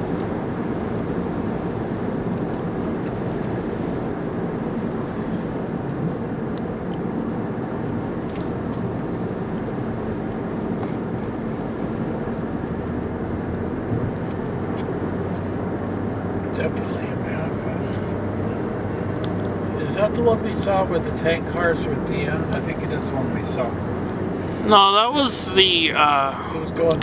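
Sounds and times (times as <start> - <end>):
moving vehicle rumble: 0.0 - 27.0.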